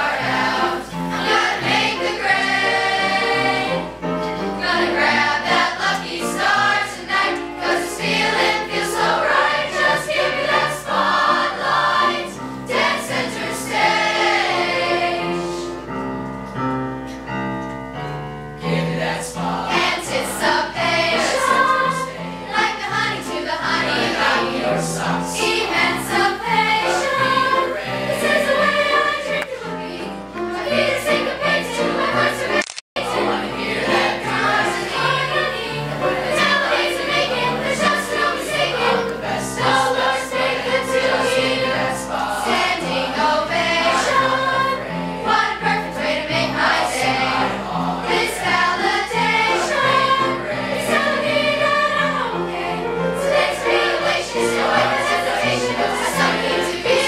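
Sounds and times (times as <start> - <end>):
choir singing in harmony: 0.0 - 16.1, 17.2 - 57.0.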